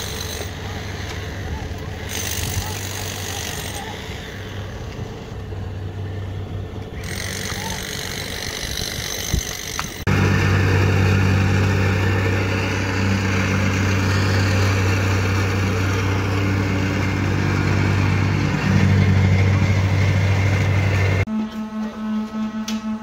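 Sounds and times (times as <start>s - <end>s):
plate compactor engine running: 0.0s - 23.0s.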